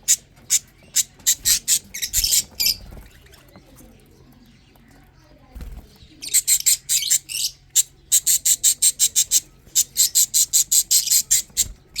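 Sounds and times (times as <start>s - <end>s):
bird chicks chirping raspily: 0.0s - 12.0s.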